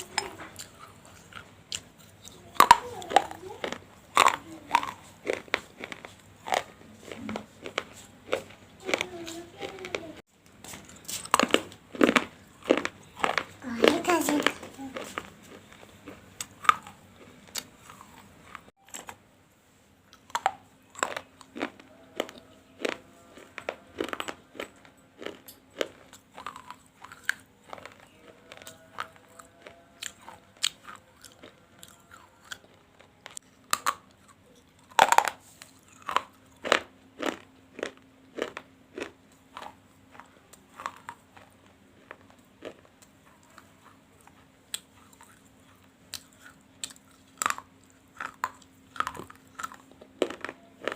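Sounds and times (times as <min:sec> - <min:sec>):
crunching of baked clay: 0:00.0 - 0:18.8, 0:20.1 - 0:50.9.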